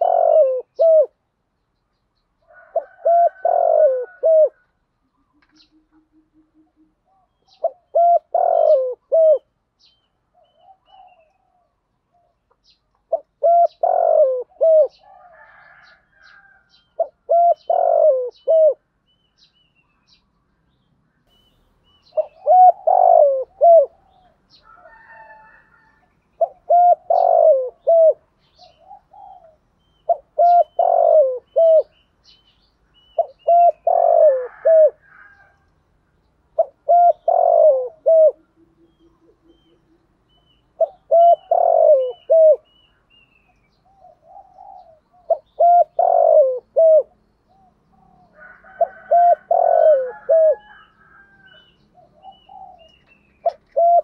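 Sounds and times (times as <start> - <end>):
dove cooing: 0.0 - 1.2, 2.5 - 9.6, 13.0 - 18.9, 22.0 - 32.4, 33.0 - 35.6, 36.5 - 42.8, 43.8 - 54.0.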